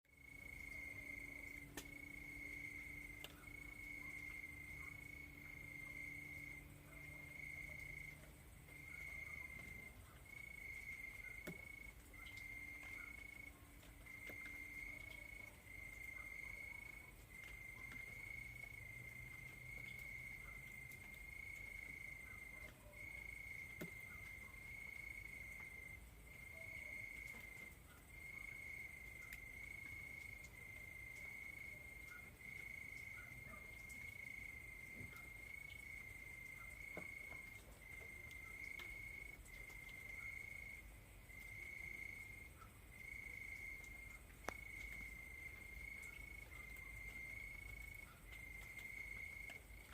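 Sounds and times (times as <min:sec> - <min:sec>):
crickets chirping: 0:00.1 - 0:49.9.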